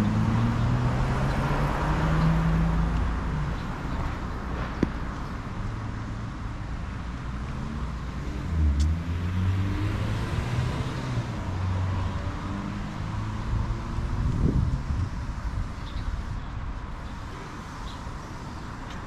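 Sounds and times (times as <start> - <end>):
car engines passing: 0.0 - 19.0.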